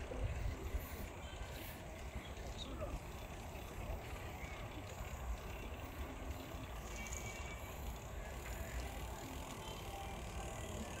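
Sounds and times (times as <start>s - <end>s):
bicycle freewheel ratchet ticking: 0.3s - 11.0s.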